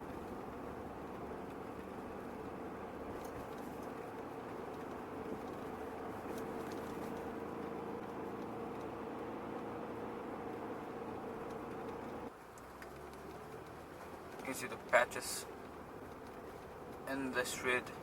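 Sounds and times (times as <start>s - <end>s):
car engine hum: 0.0s - 18.0s
tyre noise on icy street: 0.0s - 18.0s.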